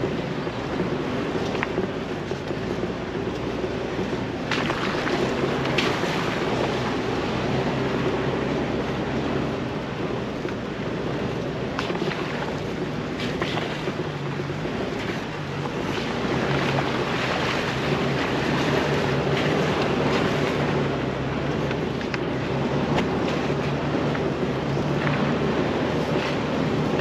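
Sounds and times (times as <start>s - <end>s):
engine running at low speed: 0.0s - 27.0s
steady rushing noise: 0.0s - 27.0s.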